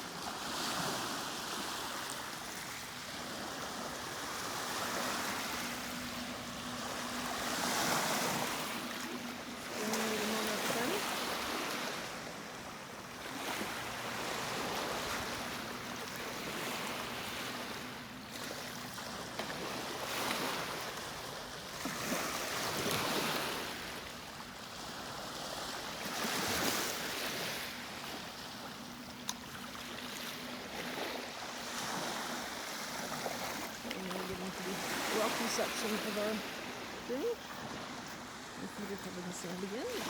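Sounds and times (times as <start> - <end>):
waves washing onto beach: 0.0 - 40.0.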